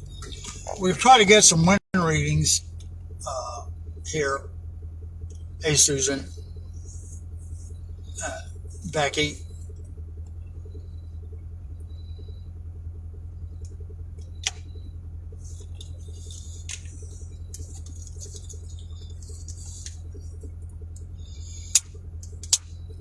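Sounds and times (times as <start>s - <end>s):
vehicle interior hum: 0.0s - 23.0s.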